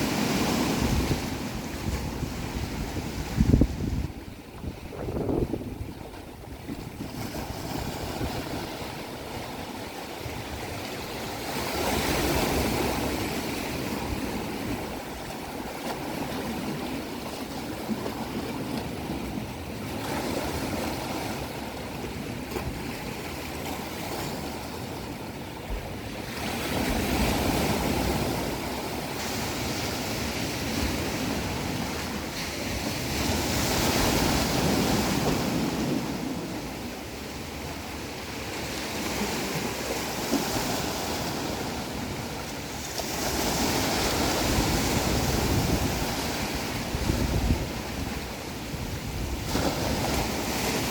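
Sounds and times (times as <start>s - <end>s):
ocean waves breaking: 0.0s - 50.9s.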